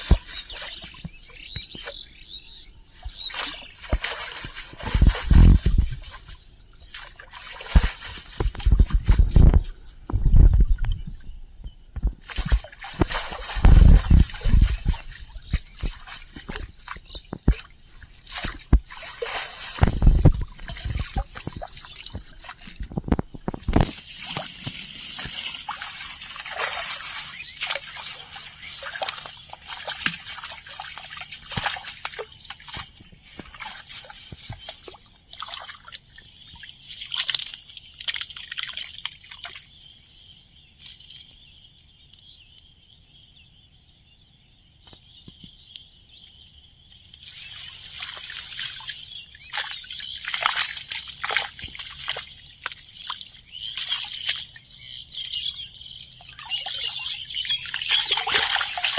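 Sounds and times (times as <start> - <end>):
water sloshing and splashing: 0.0 - 11.4, 12.0 - 41.2, 47.1 - 58.9.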